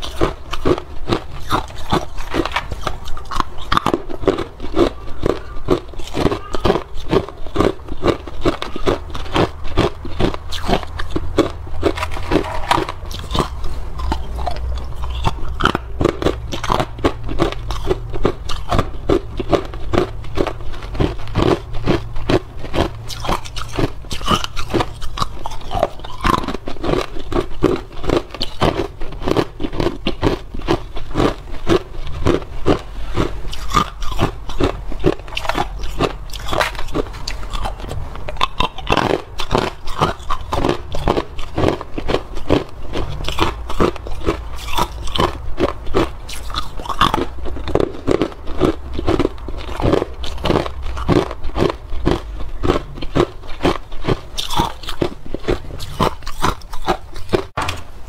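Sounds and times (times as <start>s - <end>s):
ice cubes crunched between teeth: 0.0s - 57.5s.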